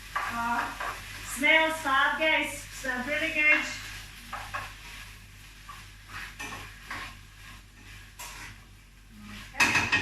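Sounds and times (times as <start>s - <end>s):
utensil clinking and scraping a pan: 0.0s - 2.0s, 2.8s - 8.7s, 9.3s - 10.0s.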